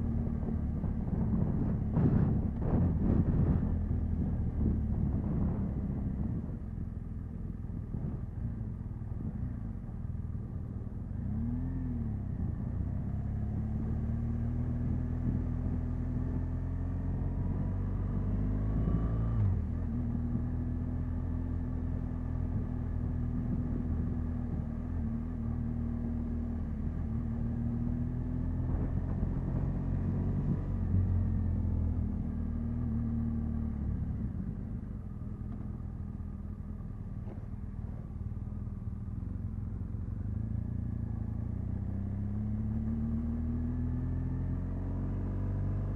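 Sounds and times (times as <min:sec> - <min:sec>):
motorcycle engine running: 0:00.0 - 0:18.2, 0:19.5 - 0:45.9.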